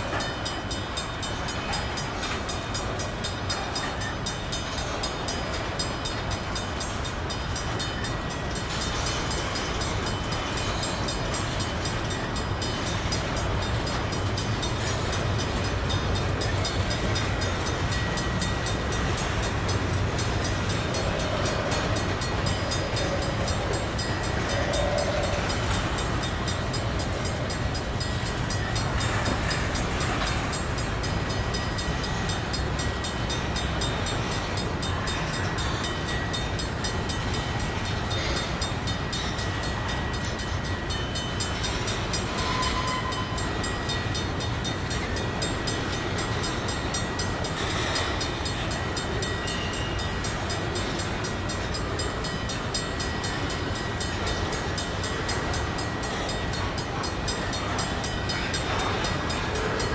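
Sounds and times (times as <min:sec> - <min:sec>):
freight train wheels clattering on rails: 0:00.0 - 0:59.9.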